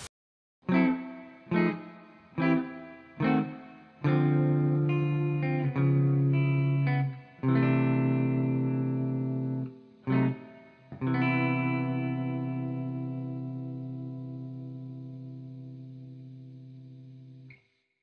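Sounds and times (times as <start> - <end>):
electric guitar chords ringing: 0.7 - 17.6.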